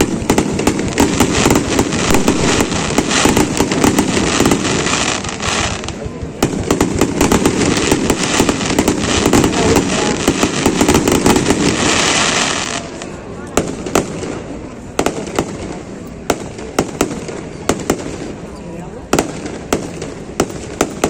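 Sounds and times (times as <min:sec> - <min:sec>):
fireworks cracking and banging: 0:00.0 - 0:21.0.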